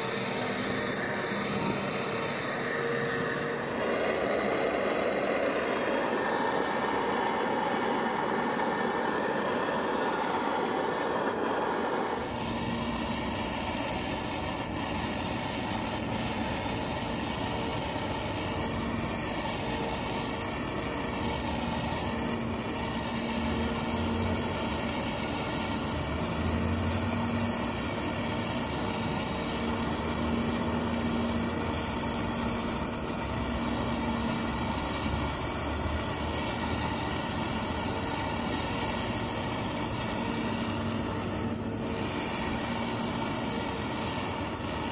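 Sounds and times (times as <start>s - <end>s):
propane torch hissing: 0.0s - 44.9s.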